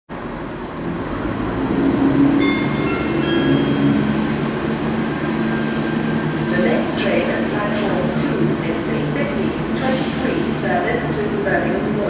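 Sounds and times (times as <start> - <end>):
diesel train engines humming: 0.1 - 12.0.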